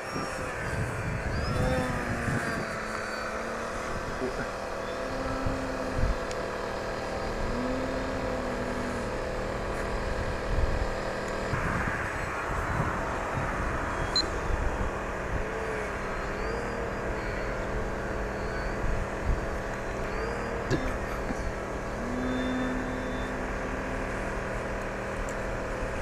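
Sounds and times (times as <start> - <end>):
model airplane motor droning: 0.0 - 26.0.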